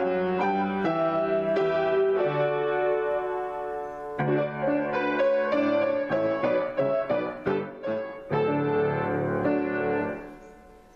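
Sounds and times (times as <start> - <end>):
grand piano playing: 0.0 - 10.9.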